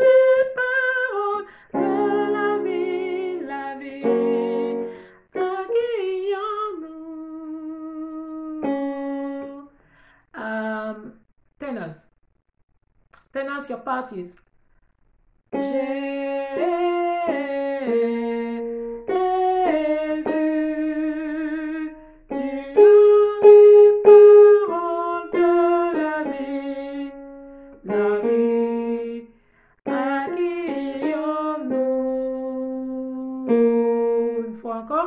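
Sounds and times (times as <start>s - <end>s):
woman singing: 0.0s - 9.7s, 15.6s - 29.3s, 29.9s - 35.0s.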